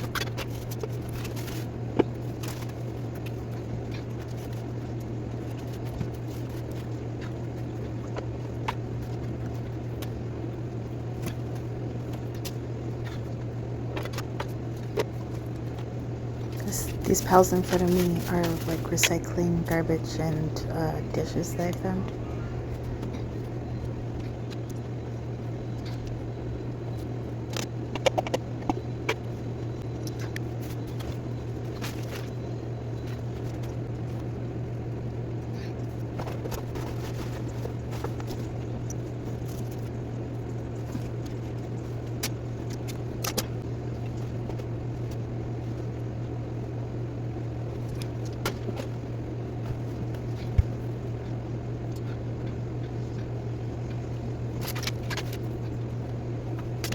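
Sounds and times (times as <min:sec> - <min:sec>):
low hum: 0:00.0 - 0:56.9.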